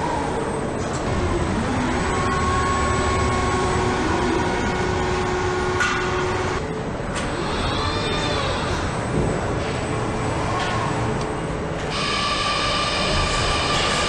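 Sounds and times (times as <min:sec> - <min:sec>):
whining factory machinery hum: 0:00.0 - 0:14.0.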